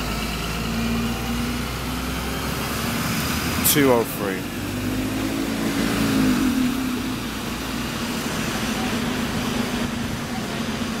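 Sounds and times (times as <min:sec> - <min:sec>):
bus engines droning: 0:00.0 - 0:11.0
traffic noise: 0:00.0 - 0:11.0.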